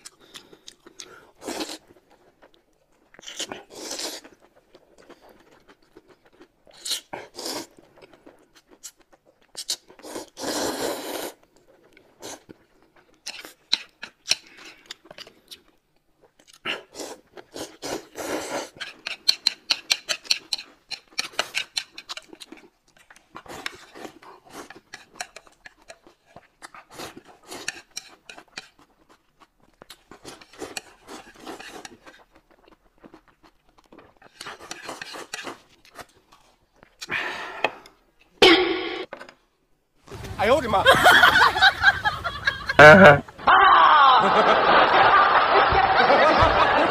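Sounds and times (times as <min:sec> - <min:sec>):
noodles slurped and chewed: 0:00.0 - 0:38.4.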